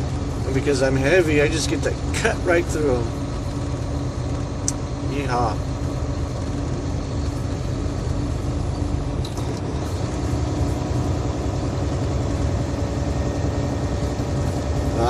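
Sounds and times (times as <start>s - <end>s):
truck engine rumble in cab: 0.0s - 15.0s.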